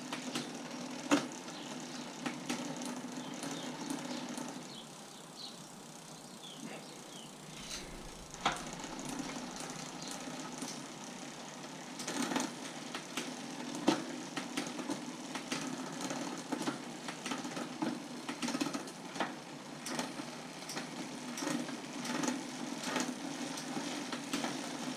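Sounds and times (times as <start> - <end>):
bicycle chain whirring: 0.0 - 24.9
bicycle gear clicks: 0.0 - 24.9.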